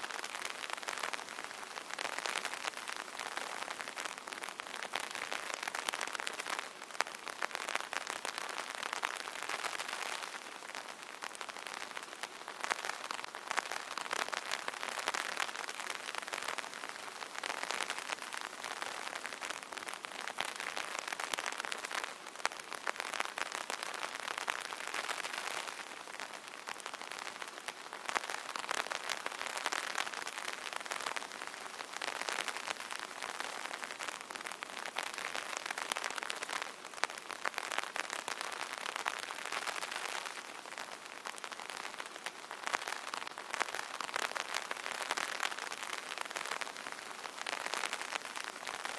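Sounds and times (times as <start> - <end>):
rain pattering on an umbrella: 0.0 - 48.9.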